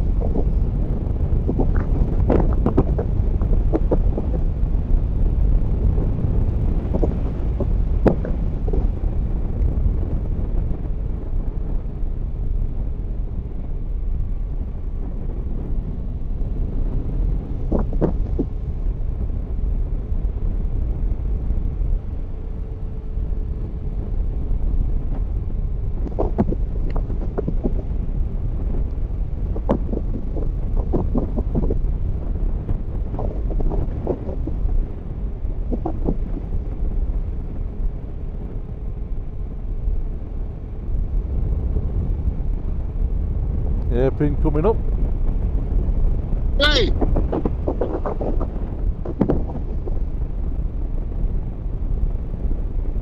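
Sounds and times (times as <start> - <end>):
wind rush over microphone: 0.0 - 53.0.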